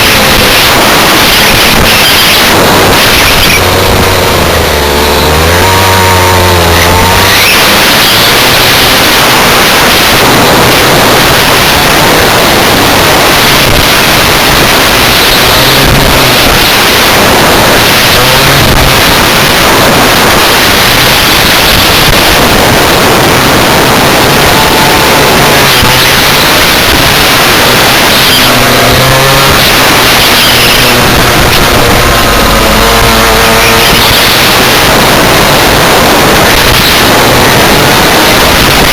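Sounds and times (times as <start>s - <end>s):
kart engine: 0.0s - 38.9s
wind rushing over microphone: 0.0s - 38.9s.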